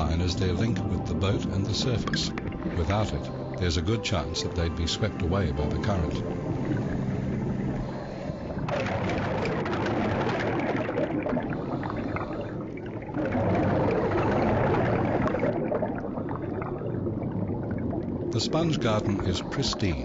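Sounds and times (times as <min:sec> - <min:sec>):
water gurgling and rushing: 0:00.0 - 0:20.0.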